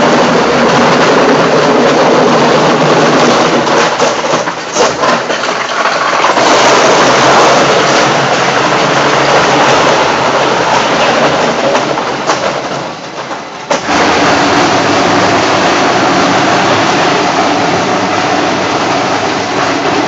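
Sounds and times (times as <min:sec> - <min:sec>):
industrial shredder shredding: 0:00.0 - 0:20.0.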